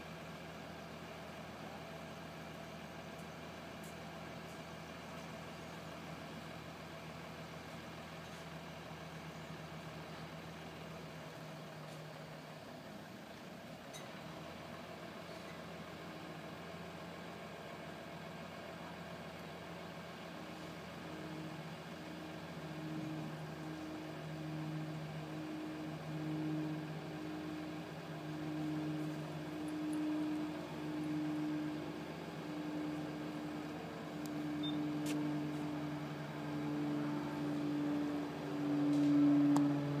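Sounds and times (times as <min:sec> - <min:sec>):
crane engine pulsing hum: 0:00.0 - 0:40.0.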